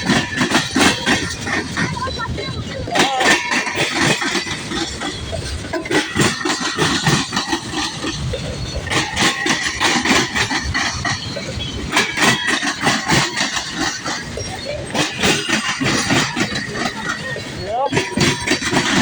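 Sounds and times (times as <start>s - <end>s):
high wheel squeal: 0.0s - 19.0s
train wheels clicking over rail joints: 0.0s - 19.0s.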